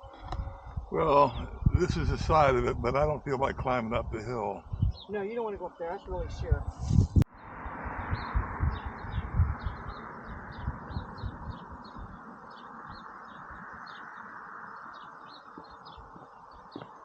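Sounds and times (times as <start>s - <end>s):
small birds chirping: 0.0s - 7.1s, 7.9s - 17.0s.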